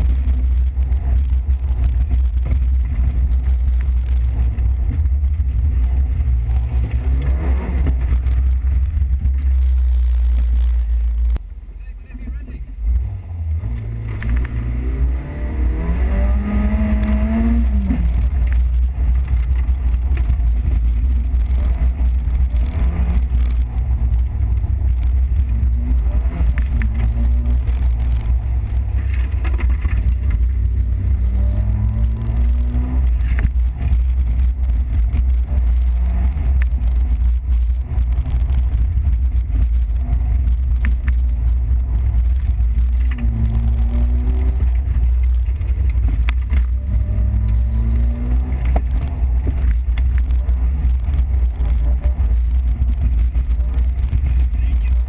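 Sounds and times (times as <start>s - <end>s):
cabin and road noise rumble: 0.0s - 55.0s
car engine revving: 0.0s - 55.0s.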